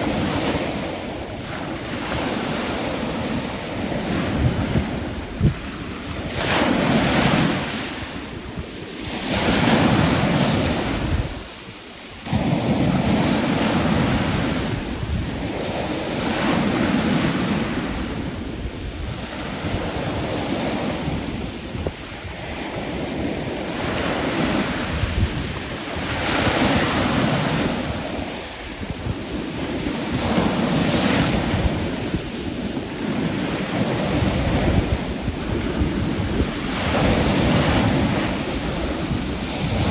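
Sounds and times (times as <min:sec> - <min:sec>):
sea waves surging: 0:00.0 - 0:39.9
wind buffeting microphone: 0:00.0 - 0:39.9.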